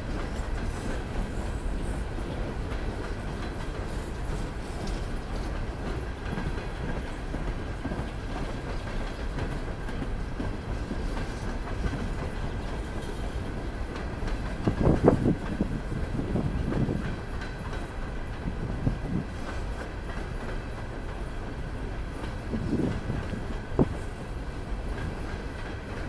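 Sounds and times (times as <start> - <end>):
freight train cars rolling past: 0.0 - 26.0.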